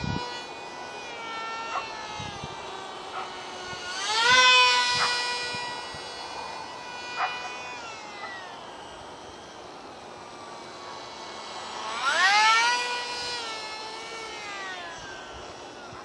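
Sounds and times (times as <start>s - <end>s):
small electric motor whining: 0.0s - 16.0s.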